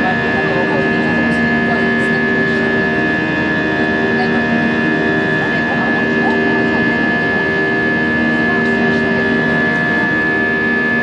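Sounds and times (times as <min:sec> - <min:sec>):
constant humming tones: 0:00.0 - 0:11.0
jet engine drone: 0:00.0 - 0:11.0.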